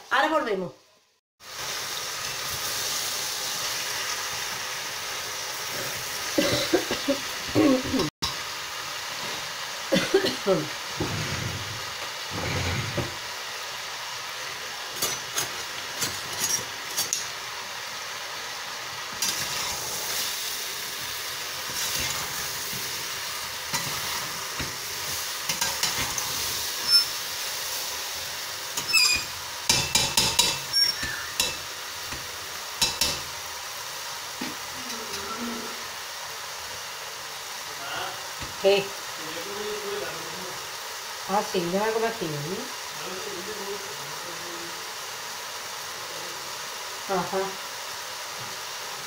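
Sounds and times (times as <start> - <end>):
chicken and mushrooms sizzling: 0.0 - 49.0.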